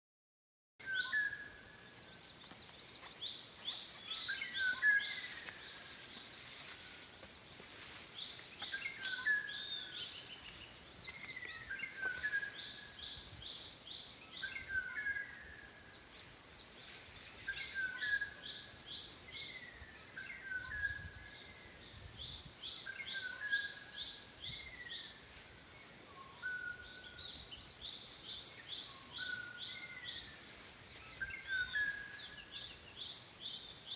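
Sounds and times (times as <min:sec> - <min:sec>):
songbirds singing: 0:00.8 - 0:33.9.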